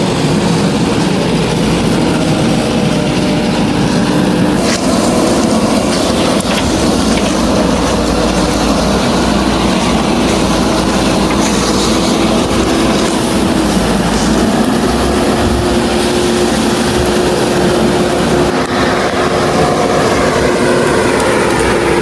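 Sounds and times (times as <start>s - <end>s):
construction machinery diesel engine: 0.0s - 22.0s.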